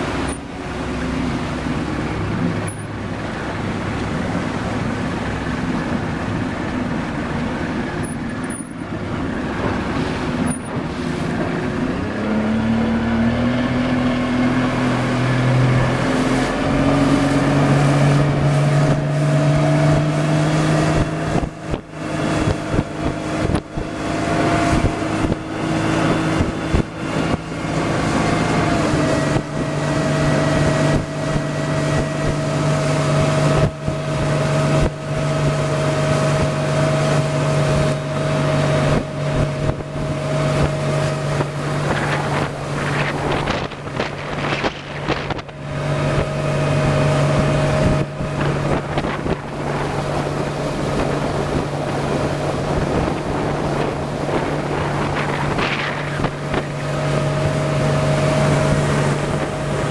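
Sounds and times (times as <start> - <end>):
outboard motor running: 0.0 - 59.9
wind buffeting microphone: 0.0 - 59.9.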